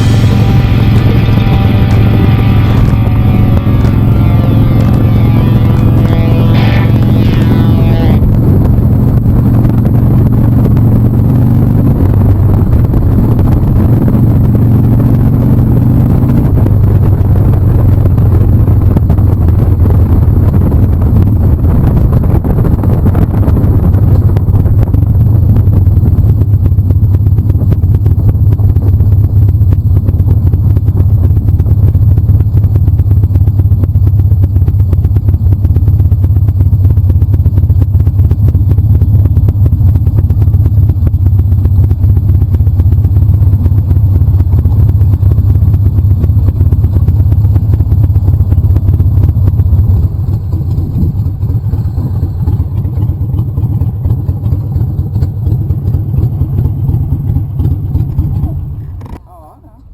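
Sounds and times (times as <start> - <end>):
wind on microphone: 0.0 - 59.1
motorcycle engine rumble: 0.0 - 59.9.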